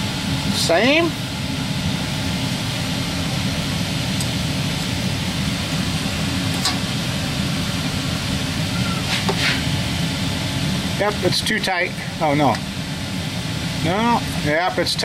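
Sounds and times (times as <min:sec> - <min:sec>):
steady mechanical drone: 0:00.0 - 0:15.0.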